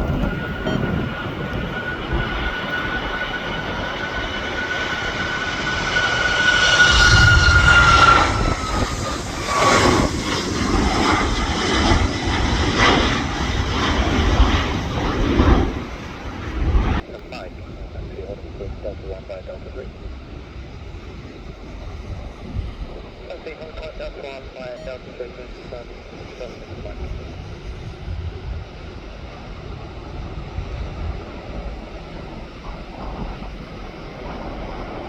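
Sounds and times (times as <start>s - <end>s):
engine rumble: 0.0s - 35.0s
jet engines whining: 0.0s - 35.0s
wind on microphone: 0.0s - 35.0s.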